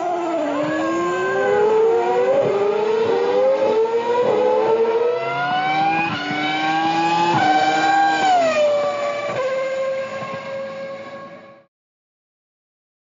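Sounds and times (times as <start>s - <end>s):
high-revving racing engine: 0.0s - 11.7s.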